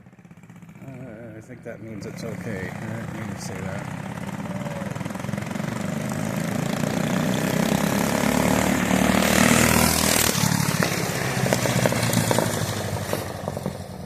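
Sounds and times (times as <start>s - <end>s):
small motorbike engine revving: 0.0s - 14.0s.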